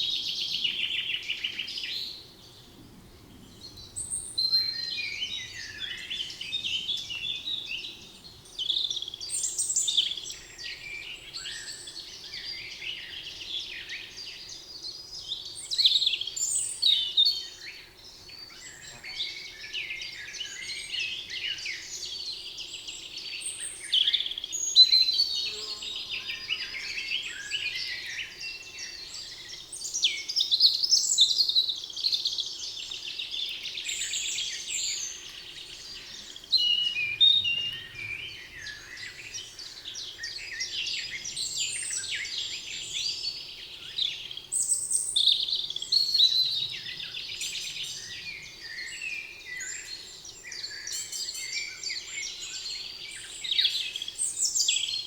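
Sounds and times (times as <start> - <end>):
wild birds singing: 0.0 - 55.0.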